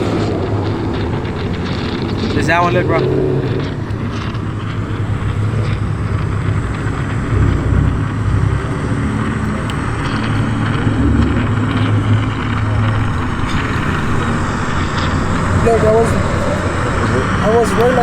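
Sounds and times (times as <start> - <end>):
car engine running: 0.0 - 18.0
road and wind noise: 0.0 - 18.0.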